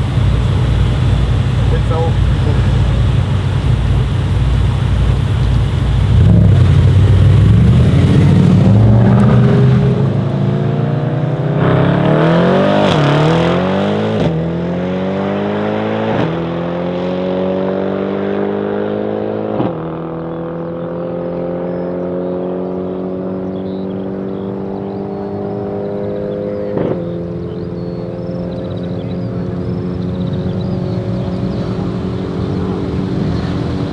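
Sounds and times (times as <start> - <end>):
car engine accelerating through gears: 0.0 - 33.9.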